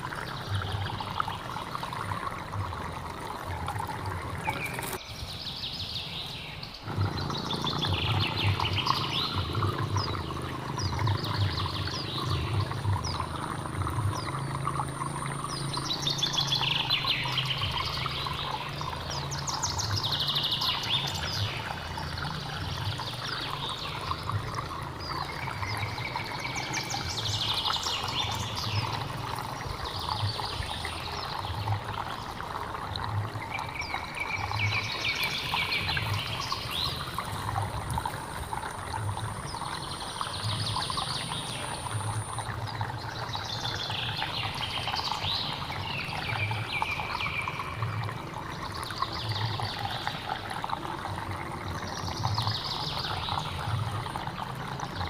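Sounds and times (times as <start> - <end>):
birds singing: 0.0 - 32.5, 33.1 - 51.0
stream water trickling: 0.0 - 55.0.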